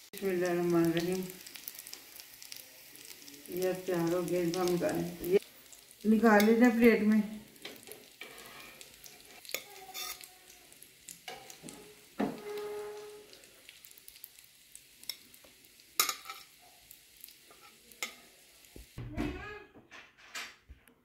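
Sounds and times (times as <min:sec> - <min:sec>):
kebabs sizzling in oil: 0:00.0 - 0:19.0.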